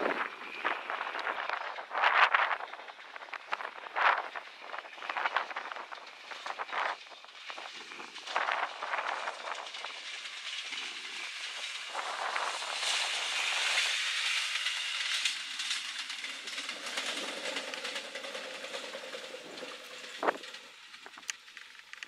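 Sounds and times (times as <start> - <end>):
train engine drone: 0.0 - 22.0
wheel and rail noise: 0.0 - 22.0.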